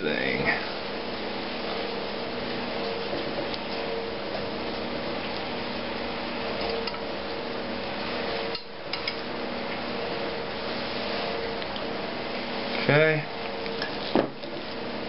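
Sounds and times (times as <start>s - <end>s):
room hum and hiss: 0.0s - 15.0s.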